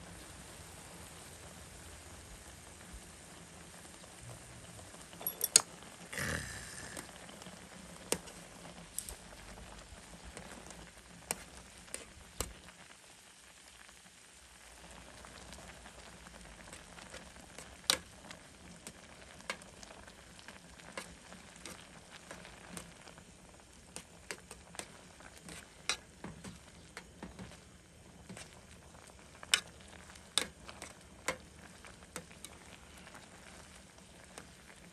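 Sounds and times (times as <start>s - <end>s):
pot hissing on a burner: 0.0s - 34.9s.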